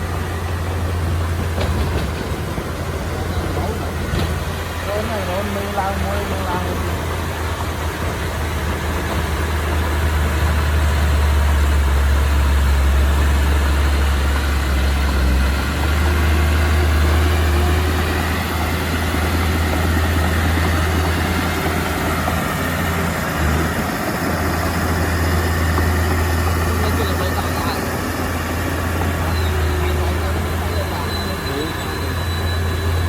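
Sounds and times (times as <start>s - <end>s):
constant mechanical noise: 0.0s - 33.0s
heavy diesel engine rumbling: 0.0s - 33.0s.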